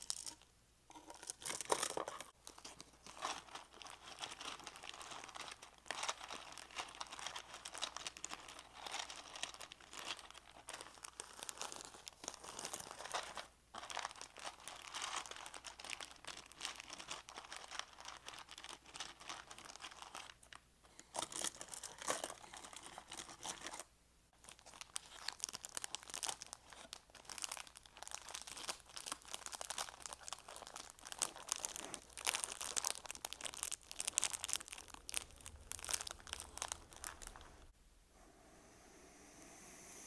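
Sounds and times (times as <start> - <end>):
material crinkling by hand: 0.0 - 37.8.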